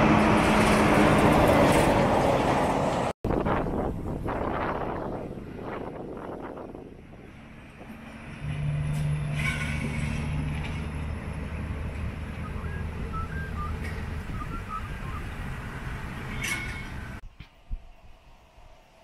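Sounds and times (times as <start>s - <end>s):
truck diesel engine running: 0.0s - 17.2s.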